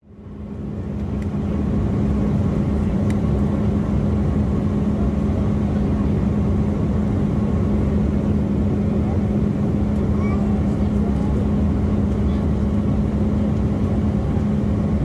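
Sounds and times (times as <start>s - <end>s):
jet airliner cabin engine hum: 0.0s - 15.0s.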